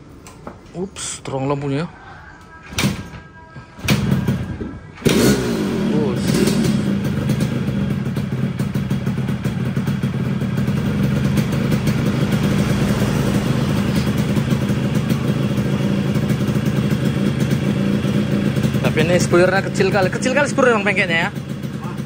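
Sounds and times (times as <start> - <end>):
two-stroke motorcycle idling: 3.9 - 22.0.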